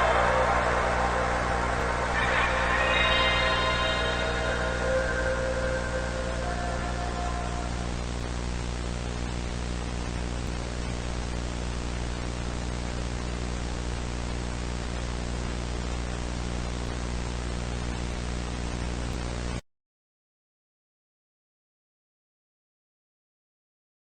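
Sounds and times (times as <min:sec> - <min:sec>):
static hiss: 0:00.0 - 0:19.6.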